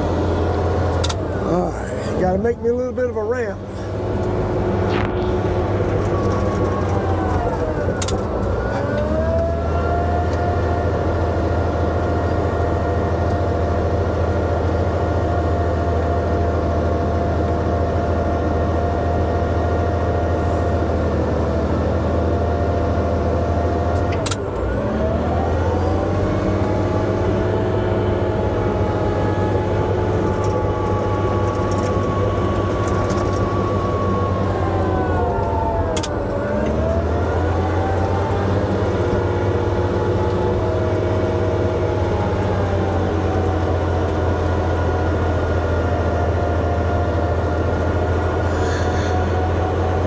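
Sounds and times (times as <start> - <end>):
bulldozer diesel engine under load: 0.0 - 50.0.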